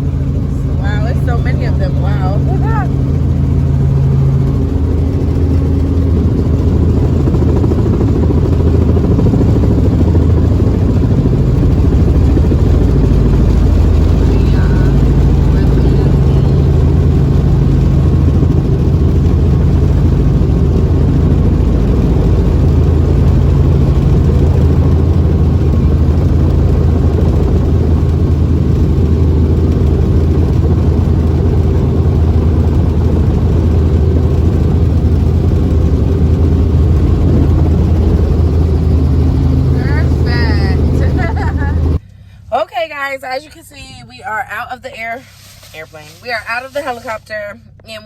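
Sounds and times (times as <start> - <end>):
helicopter engine and rotor drone: 0.0 - 42.3.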